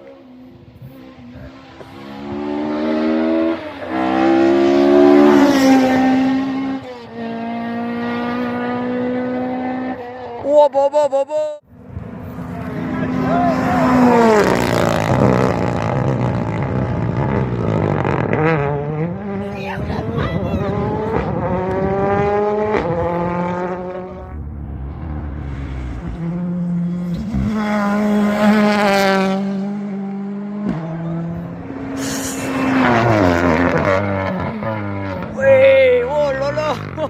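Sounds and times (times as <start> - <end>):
rally car engines revving: 0.0 - 10.5, 11.7 - 37.0.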